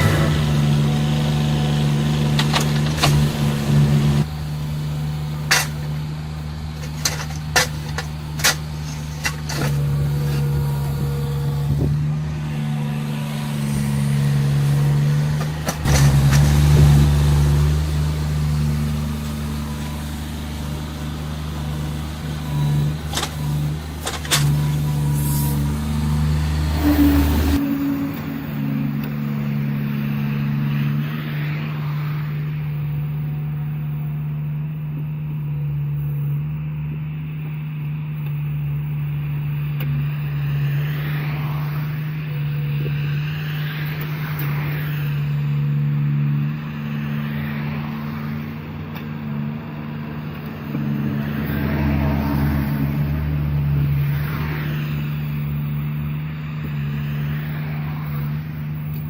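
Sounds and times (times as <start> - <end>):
vehicles swishing past: 0.0 - 32.6, 40.4 - 59.0
heavy engine droning: 0.0 - 59.0.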